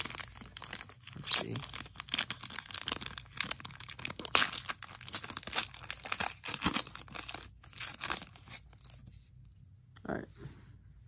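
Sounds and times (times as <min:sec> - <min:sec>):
plastic wrapper tearing and crinkling: 0:00.0 - 0:09.1.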